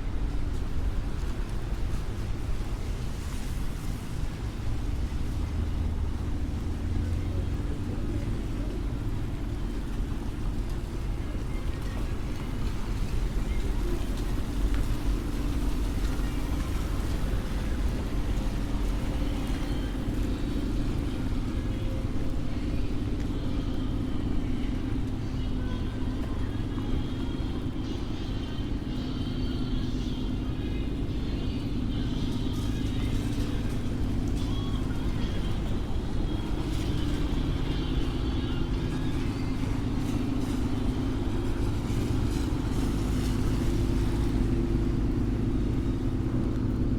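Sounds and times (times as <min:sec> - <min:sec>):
street traffic rumble: 0:00.0 - 0:46.9.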